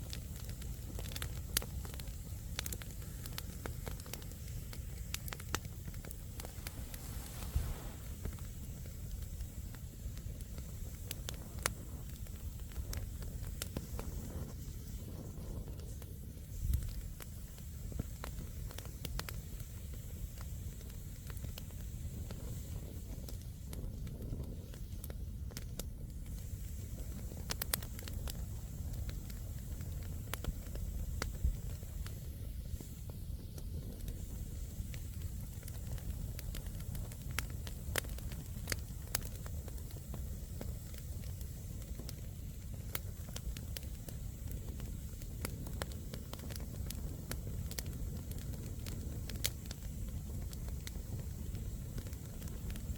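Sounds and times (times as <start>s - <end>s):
campfire crackling and popping: 0.0s - 52.9s
low fire rumble: 0.0s - 52.9s.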